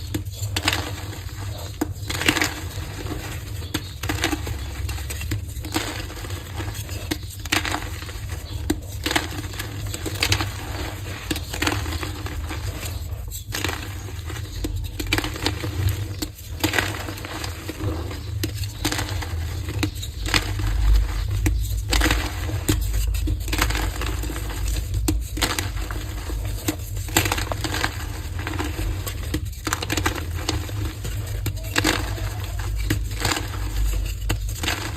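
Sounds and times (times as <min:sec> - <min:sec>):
chalk blocks being crushed: 0:00.0 - 0:34.9.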